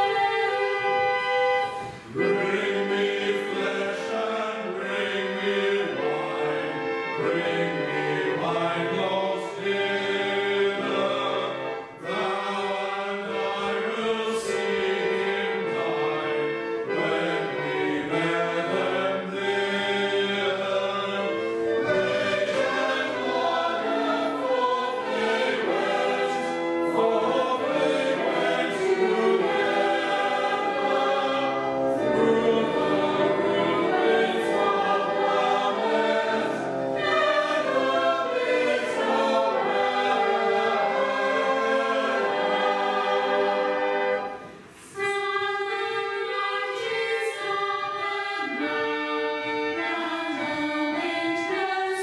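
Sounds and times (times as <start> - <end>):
choir singing a carol: 0.0 - 52.0.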